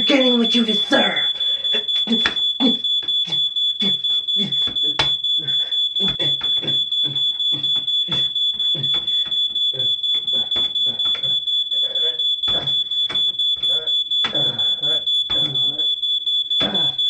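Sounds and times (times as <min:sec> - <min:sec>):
smoke alarm tone: 0:00.0 - 0:17.0
rapid thuds: 0:01.3 - 0:17.0.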